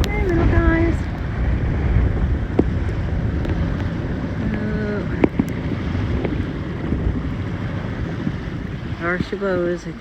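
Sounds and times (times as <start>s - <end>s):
water noise: 0.0s - 10.0s
wind buffeting microphone: 0.0s - 10.0s.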